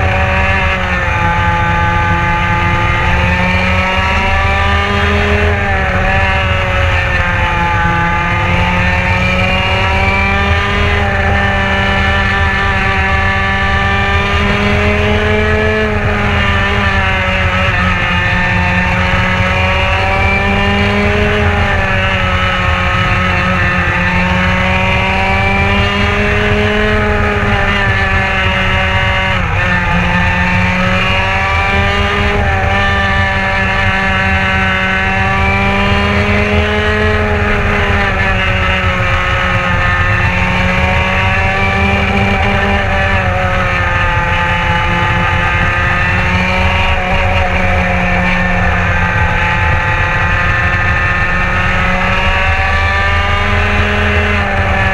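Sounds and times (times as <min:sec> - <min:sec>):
racing kart engine: 0:00.0 - 0:54.9.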